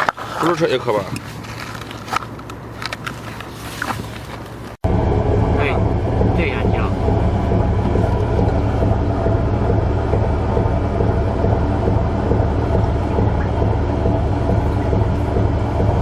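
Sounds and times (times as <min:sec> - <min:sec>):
boat engine droning: 0:01.4 - 0:16.0.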